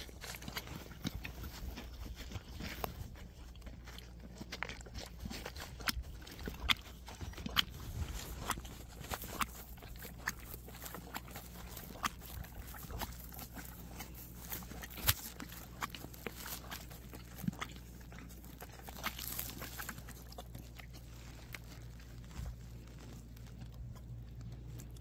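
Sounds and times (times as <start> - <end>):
horse licking plastic: 0.0 - 25.0.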